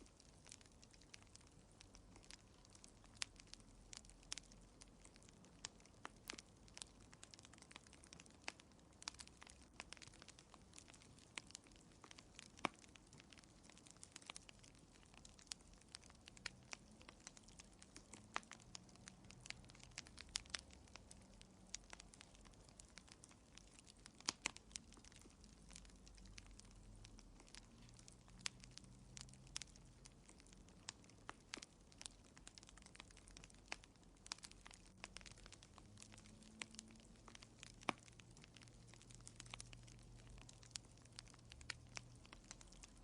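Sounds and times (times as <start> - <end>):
fire crackling in fireplace: 0.0 - 43.0.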